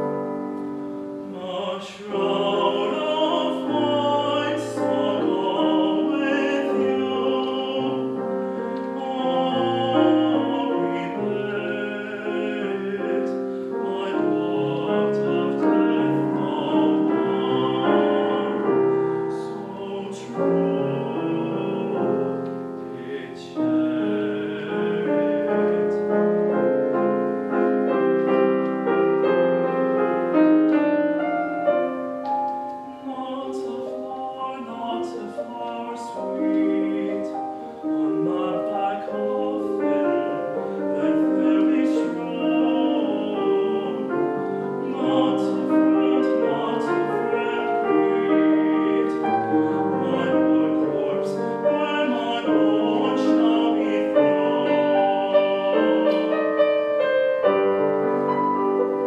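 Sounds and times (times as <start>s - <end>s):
grand piano: 0.0s - 59.0s
man singing operatically: 1.2s - 27.0s, 32.7s - 57.8s.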